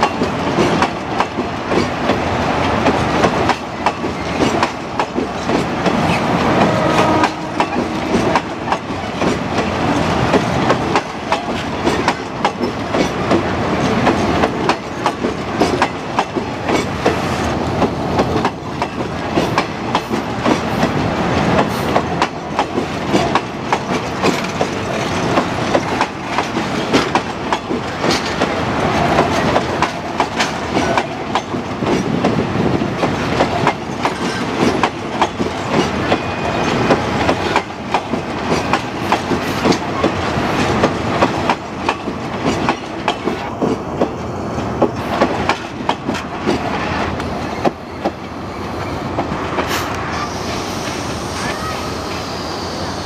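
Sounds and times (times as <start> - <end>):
wheels clicking over rail joints: 0.0 - 48.2
train wheels rumbling on track: 0.0 - 53.0.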